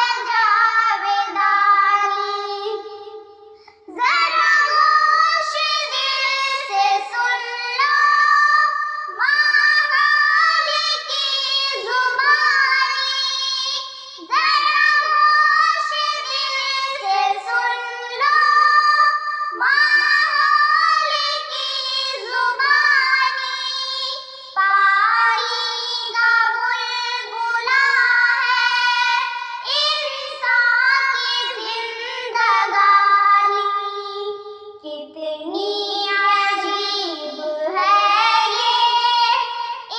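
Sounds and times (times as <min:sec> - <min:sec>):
girls singing together: 0:00.0 - 0:39.9.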